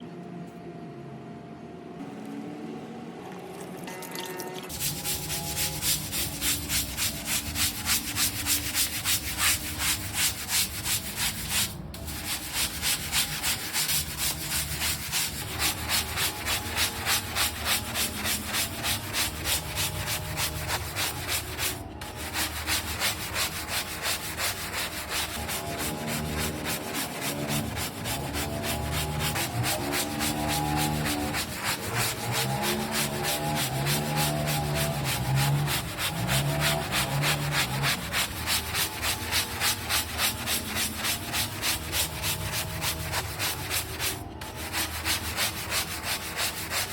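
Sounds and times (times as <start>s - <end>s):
brush scrubbing hard floor: 4.7s - 46.9s.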